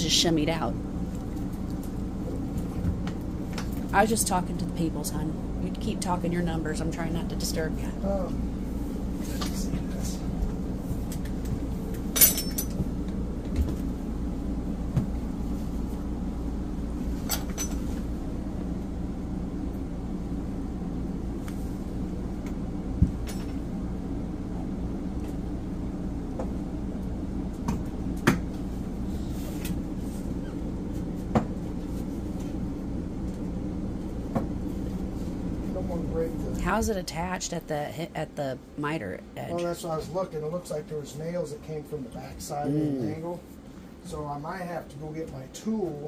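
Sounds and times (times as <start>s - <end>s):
refrigerator hum: 0.0s - 46.0s.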